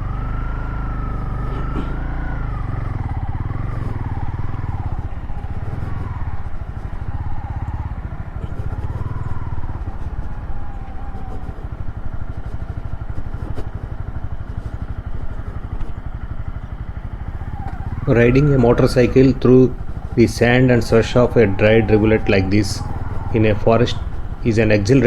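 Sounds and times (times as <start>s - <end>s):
motorcycle engine under load: 0.0s - 25.0s.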